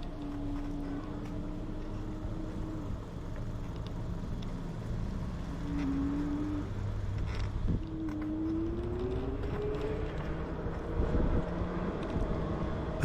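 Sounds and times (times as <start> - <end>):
traffic: 0.0 - 13.0.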